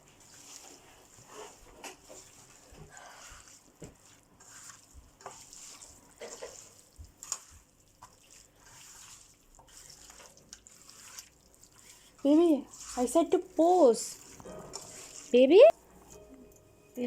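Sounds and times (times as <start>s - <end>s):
wet hand mixing sounds: 0.0s - 16.2s.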